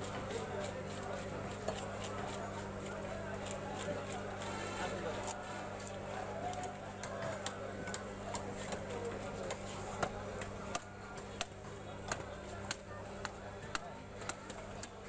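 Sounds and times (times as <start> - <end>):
knife chopping through fish: 0.0 - 15.0.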